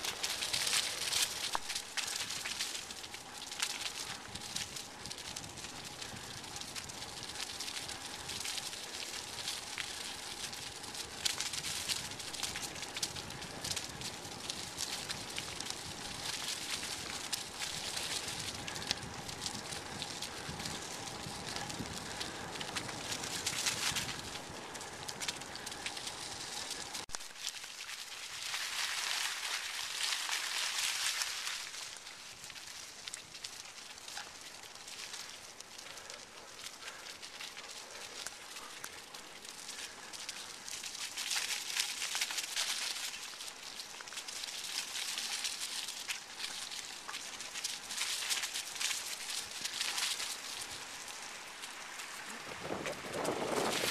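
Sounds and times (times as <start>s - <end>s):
bicycle tyres on gravel and leaves: 0.0s - 53.9s.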